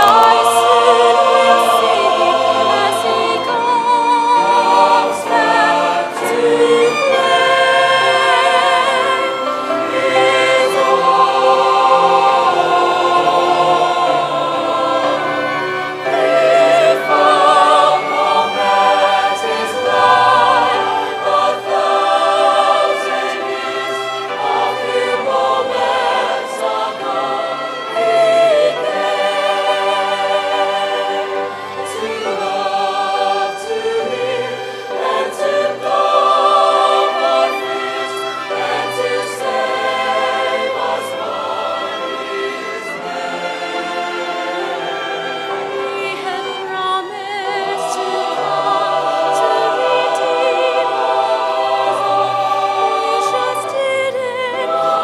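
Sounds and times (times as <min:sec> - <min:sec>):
mixed choir singing: 0:00.0 - 0:55.0
orchestral accompaniment: 0:00.0 - 0:55.0.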